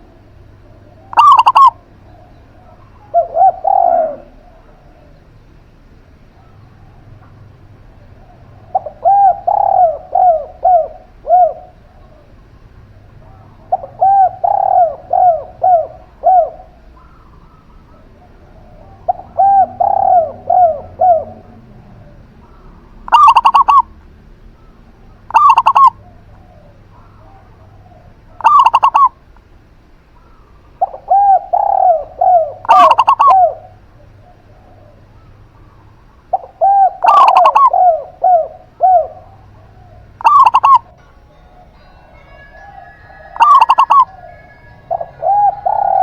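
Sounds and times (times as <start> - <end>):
doves cooing: 0.0 - 46.0.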